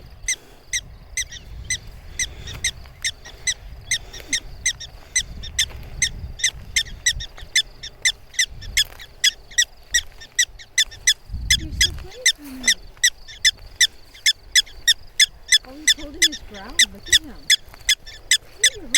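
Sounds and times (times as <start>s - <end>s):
prairie dog alarm chirps: 0.0s - 18.9s.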